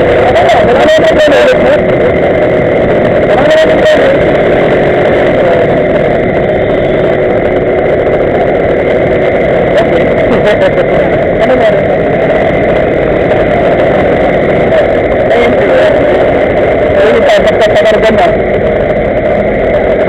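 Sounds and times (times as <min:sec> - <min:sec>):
two-stroke scooter engines running: 0:00.0 - 0:20.0
voices: 0:00.0 - 0:20.0.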